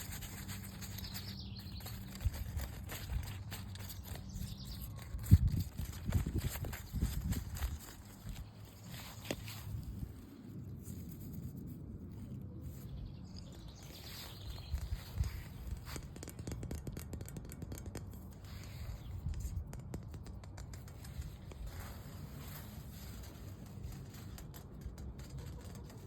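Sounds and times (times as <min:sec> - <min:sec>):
tapping and scratching on object: 0:00.0 - 0:10.0, 0:13.8 - 0:26.0.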